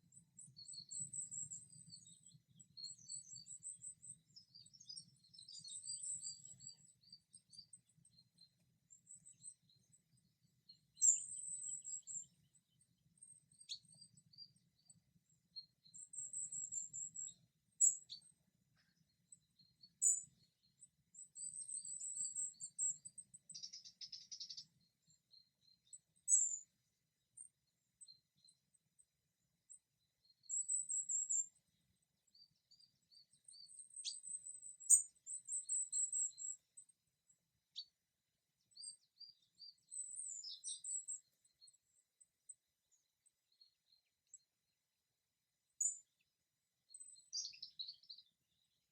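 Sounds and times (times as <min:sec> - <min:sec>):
songbirds chirping and singing: 0:00.2 - 0:28.6, 0:29.7 - 0:36.9, 0:38.6 - 0:42.0, 0:45.8 - 0:48.9.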